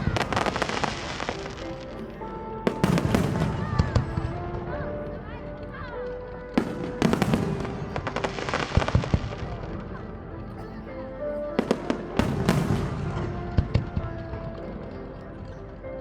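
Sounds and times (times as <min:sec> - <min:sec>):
fireworks bursting and crackling: 0:00.0 - 0:10.0, 0:11.6 - 0:15.0
music with held notes: 0:00.0 - 0:16.0.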